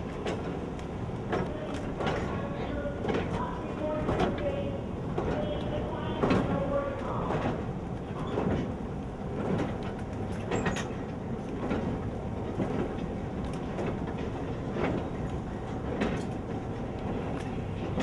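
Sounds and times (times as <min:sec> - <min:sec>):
conveyor rumbling: 0:00.0 - 0:18.0.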